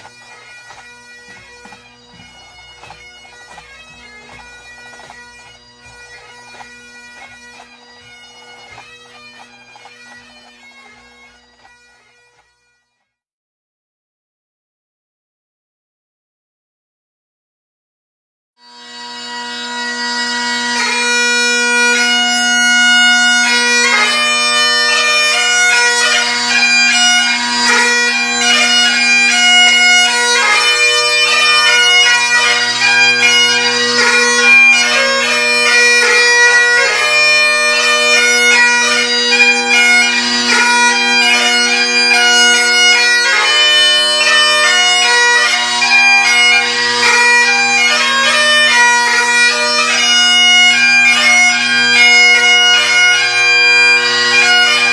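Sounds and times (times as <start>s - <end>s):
bagpipe drones humming: 0.0s - 12.1s, 18.6s - 54.9s
bagpipe chanter melody: 0.0s - 12.9s, 18.6s - 54.9s.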